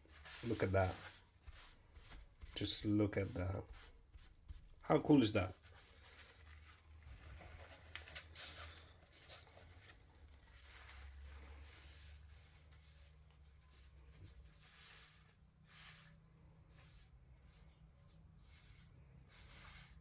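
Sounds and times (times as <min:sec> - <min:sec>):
paper towel dabbing on wood: 0:00.0 - 0:20.0.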